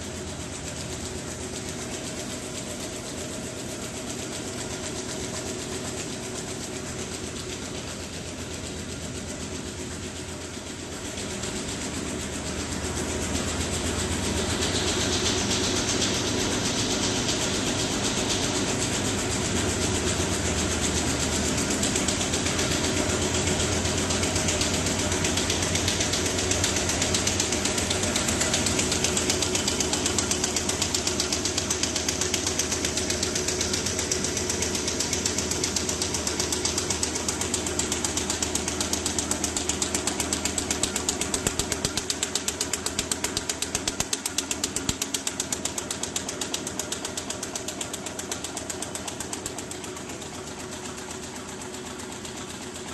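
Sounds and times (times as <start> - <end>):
machine mechanical clatter: 0.0 - 52.9
steady machine hum: 0.0 - 52.9.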